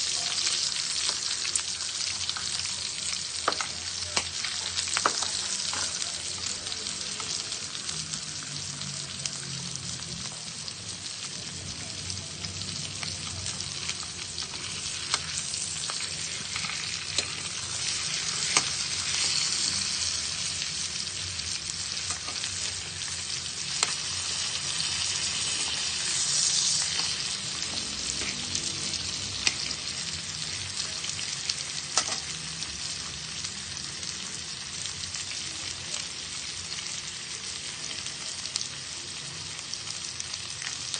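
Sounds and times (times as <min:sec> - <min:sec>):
meat sizzling on grill: 0:00.0 - 0:40.9.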